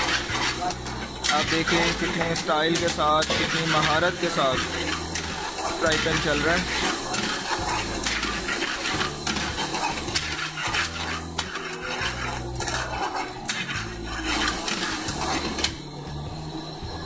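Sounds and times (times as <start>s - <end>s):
metal ladle scraping frying pan: 0.0s - 15.8s
food sizzling: 0.0s - 17.0s.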